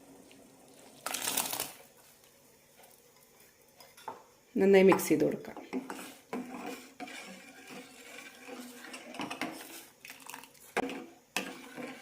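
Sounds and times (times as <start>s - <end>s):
spoon stirring in boiling milk: 1.8s - 12.0s.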